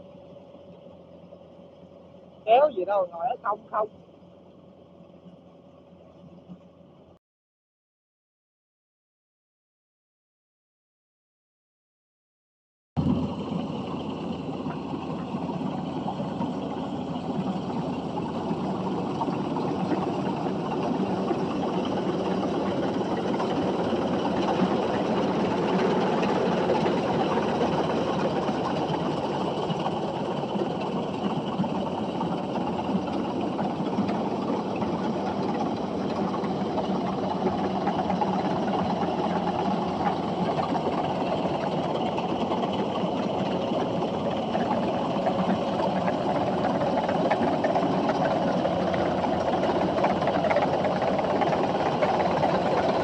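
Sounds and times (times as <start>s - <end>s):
engine running: 0.0s - 7.2s, 13.0s - 53.0s.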